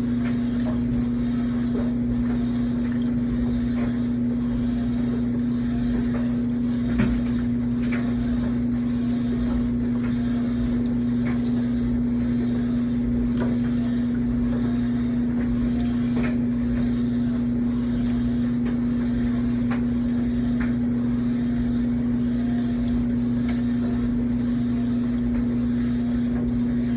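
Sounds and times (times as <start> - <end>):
washing machine groaning: 0.0 - 26.9.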